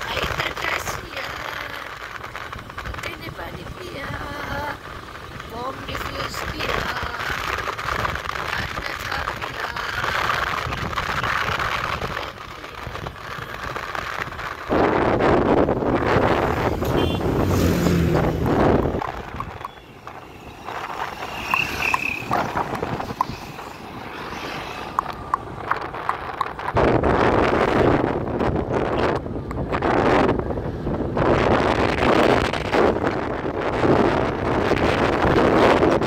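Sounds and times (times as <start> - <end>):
road and traffic noise: 0.0 - 36.0
wind rushing over microphone: 0.0 - 36.0.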